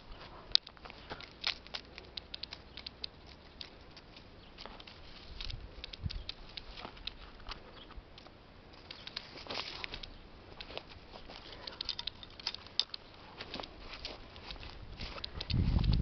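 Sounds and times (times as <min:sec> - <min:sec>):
dry leaves crackling underfoot: 0:00.0 - 0:16.0.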